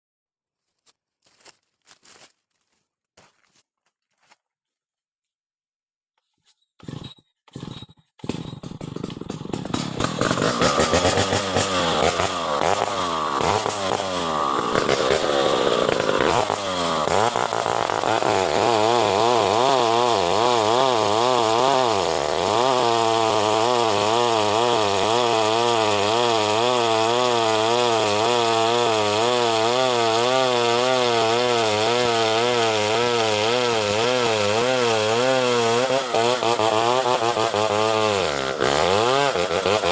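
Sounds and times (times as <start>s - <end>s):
chainsaw cutting log: 6.8s - 39.9s.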